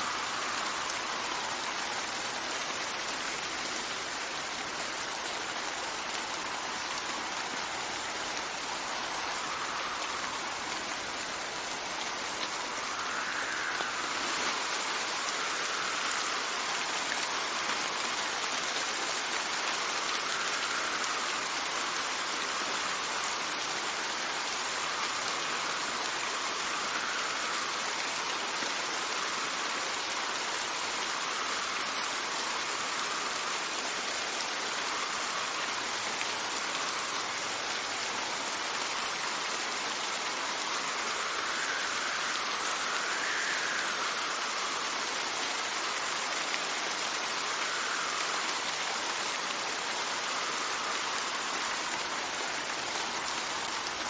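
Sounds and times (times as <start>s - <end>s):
steady rain hissing: 0.0s - 54.0s
wind gusts: 0.0s - 54.0s.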